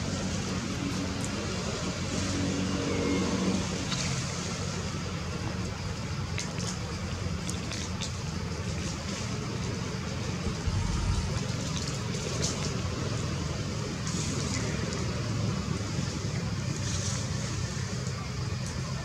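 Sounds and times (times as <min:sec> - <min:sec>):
low rumble of outdoor background: 0:00.0 - 0:19.0.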